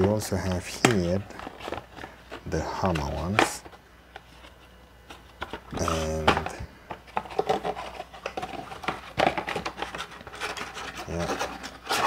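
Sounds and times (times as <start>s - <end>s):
cardboard scraping: 0.0s - 12.0s.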